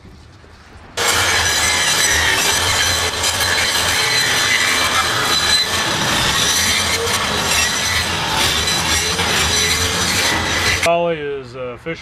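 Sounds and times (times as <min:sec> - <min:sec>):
circular saw cutting plastic: 0:01.0 - 0:10.9.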